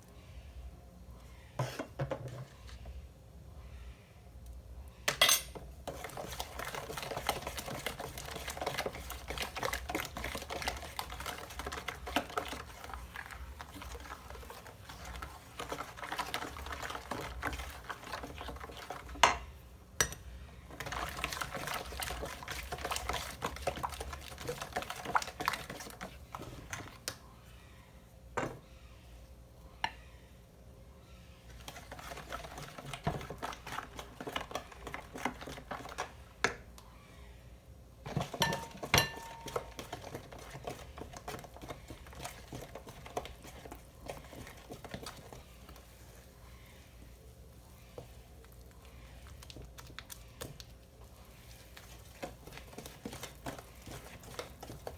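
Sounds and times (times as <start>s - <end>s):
utensil mixing in a bowl: 4.5s - 27.9s, 31.0s - 54.9s.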